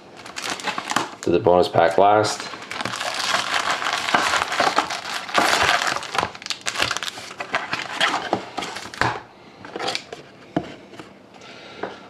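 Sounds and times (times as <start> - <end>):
card packs rustling and crackling: 0.0 - 10.2.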